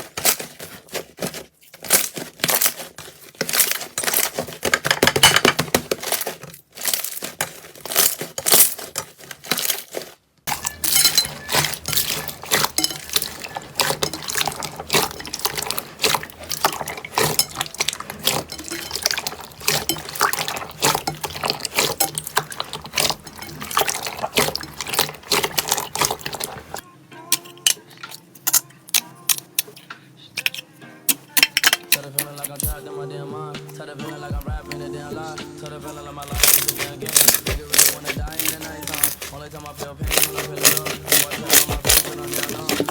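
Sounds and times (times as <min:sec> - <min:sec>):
slime squishing: 0:00.0 - 0:32.8, 0:33.6 - 0:42.9.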